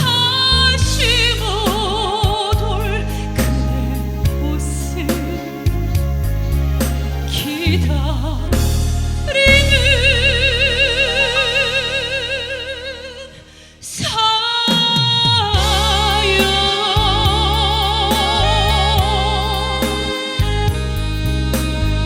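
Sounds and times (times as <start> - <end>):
backing track with bass: 0.0 - 13.8, 15.3 - 22.0.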